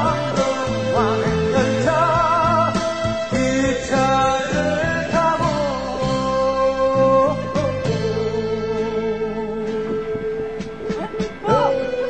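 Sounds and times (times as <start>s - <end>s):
song with band accompaniment: 0.0s - 12.0s.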